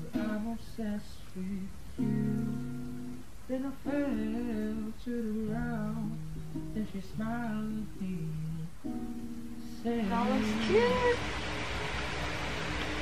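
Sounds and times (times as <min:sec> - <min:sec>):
person singing: 0:00.0 - 0:11.4
acoustic guitar: 0:00.0 - 0:13.0.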